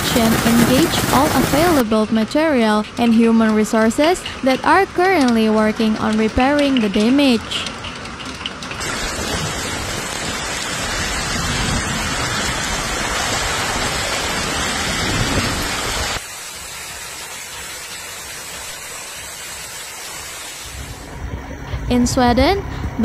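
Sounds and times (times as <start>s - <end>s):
heavy rain pelting down: 0.0s - 21.3s.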